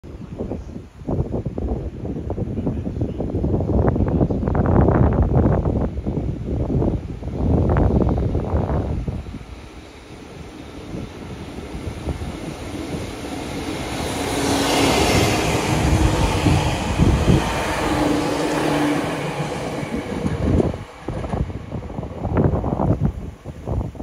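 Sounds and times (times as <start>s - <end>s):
wind buffeting microphone: 0.0s - 24.0s
train wheels rumbling on rails: 3.2s - 24.0s.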